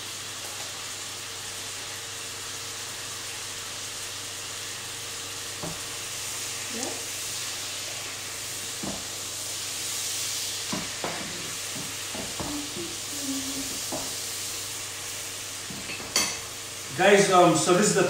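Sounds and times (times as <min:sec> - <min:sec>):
meat frying in oil: 0:00.0 - 0:18.0.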